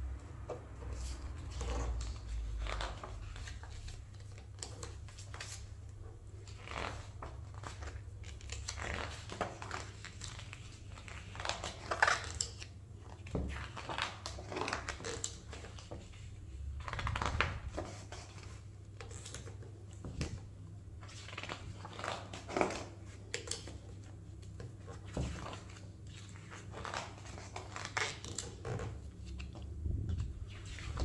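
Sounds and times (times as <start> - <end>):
book pages turning: 0.5 - 31.0.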